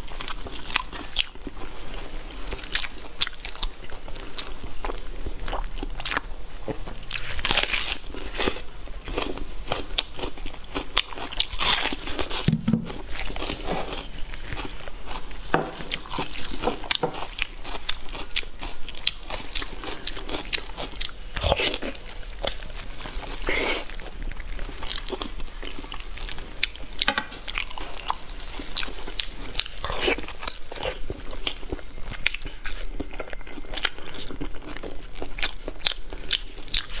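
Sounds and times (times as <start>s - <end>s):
chewing and mouth smacking: 0.1s - 37.0s.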